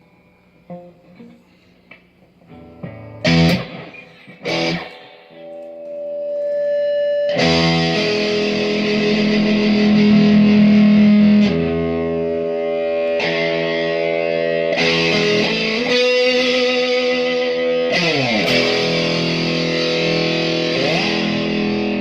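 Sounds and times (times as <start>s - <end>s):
distorted guitar chords: 0.6s - 22.0s.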